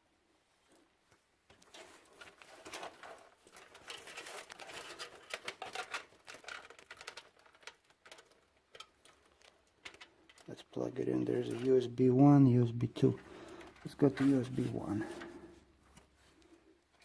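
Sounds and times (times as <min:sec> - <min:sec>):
cable clicking and rustling: 0:00.6 - 0:17.0.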